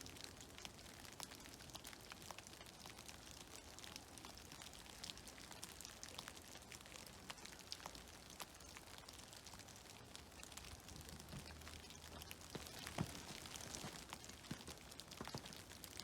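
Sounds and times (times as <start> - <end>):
meltwater dripping from trees: 0.0 - 16.0.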